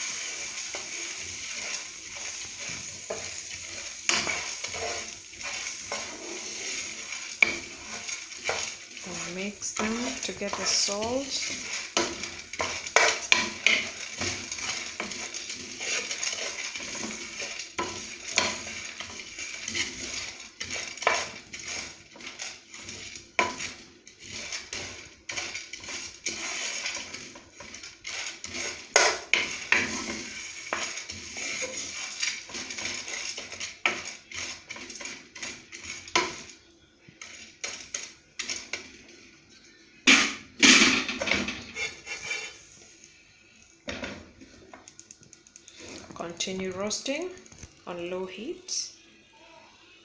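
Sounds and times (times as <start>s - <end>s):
utensil scraping a pan: 0.0s - 36.6s, 37.2s - 42.9s
sizzling hiss: 0.0s - 39.4s, 40.0s - 50.0s.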